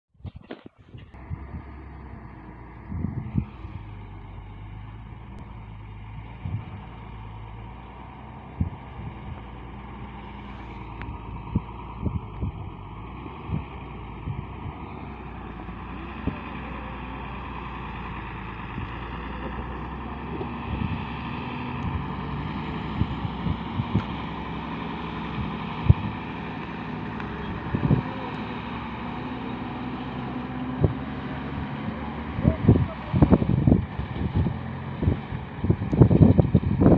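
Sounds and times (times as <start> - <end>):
wind buffeting microphone: 0.2 - 36.9
diesel truck engine running: 1.0 - 36.9.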